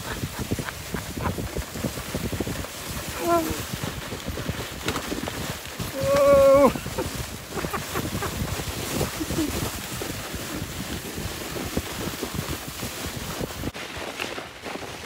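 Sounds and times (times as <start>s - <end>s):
wind buffeting microphone: 0.0s - 13.8s
sledge runners on packed snow: 0.0s - 15.0s.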